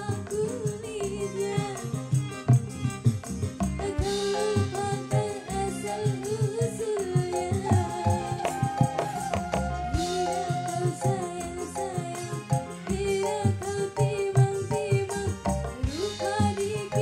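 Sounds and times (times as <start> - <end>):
woman singing: 0.0 - 2.6, 3.7 - 17.0
drum and percussion beat: 0.0 - 17.0
electric guitars: 0.0 - 17.0.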